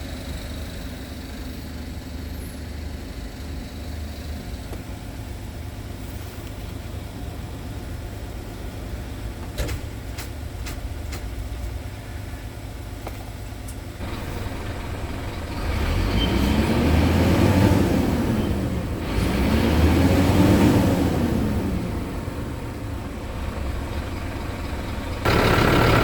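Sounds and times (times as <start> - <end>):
diesel truck engine idling and revving: 0.0 - 26.0.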